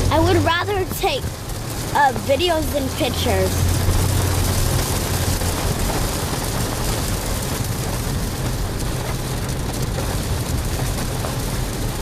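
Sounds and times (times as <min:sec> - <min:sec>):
heavy rain drumming on a car: 0:00.0 - 0:12.0.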